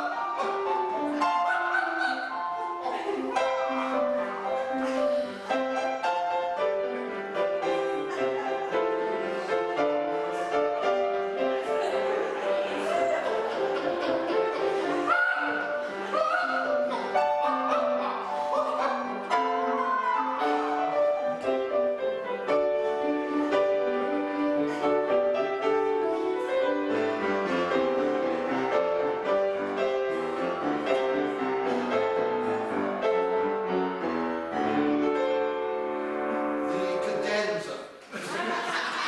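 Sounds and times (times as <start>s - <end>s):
grand piano playing: 0.0s - 37.6s.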